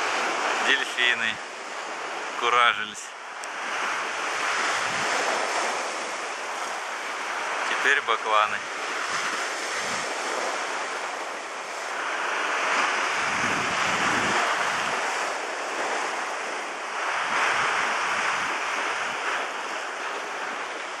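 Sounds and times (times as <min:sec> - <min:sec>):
sea waves washing: 0:00.0 - 0:21.0
wind buffeting microphone: 0:03.2 - 0:07.7, 0:08.6 - 0:21.0.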